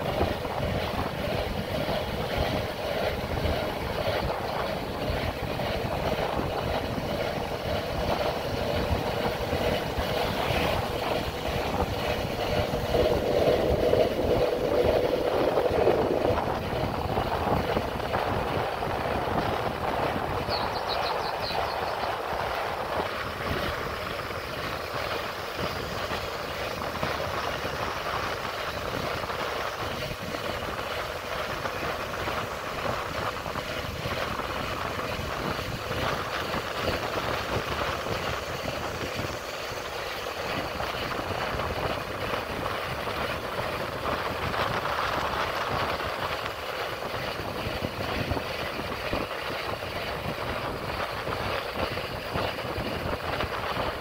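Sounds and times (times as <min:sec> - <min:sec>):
road noise from moving bike: 0:00.0 - 0:54.0
wind rushing over microphone: 0:00.0 - 0:54.0.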